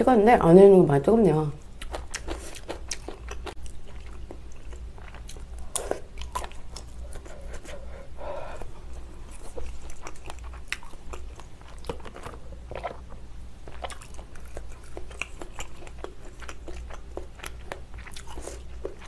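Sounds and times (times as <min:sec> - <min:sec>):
chewing and wet mouth sounds: 0:01.6 - 0:19.0.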